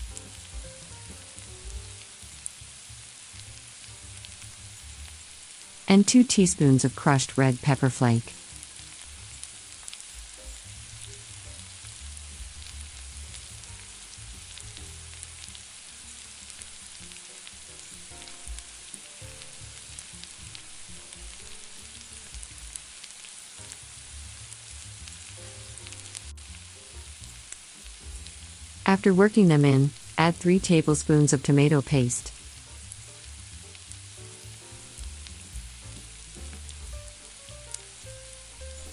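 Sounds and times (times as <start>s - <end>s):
vegetables sizzling in pan: 0.0s - 38.9s.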